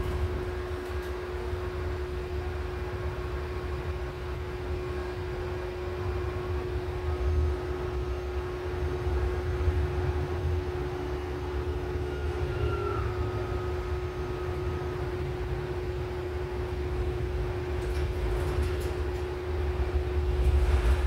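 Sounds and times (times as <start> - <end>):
constant hum: 0.0 - 21.0
train low rumble: 0.0 - 21.0.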